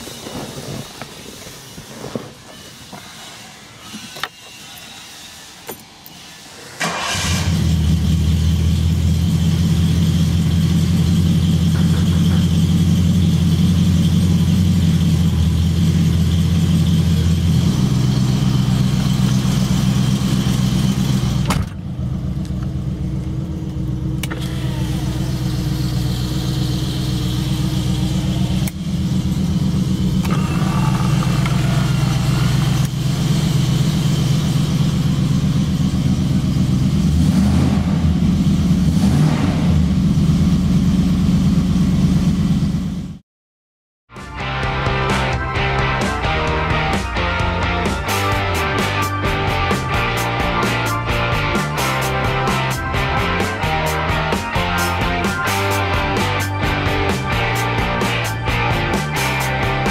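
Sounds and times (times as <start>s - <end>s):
car engine idling: 6.8s - 39.0s, 39.8s - 43.2s, 45.8s - 59.9s.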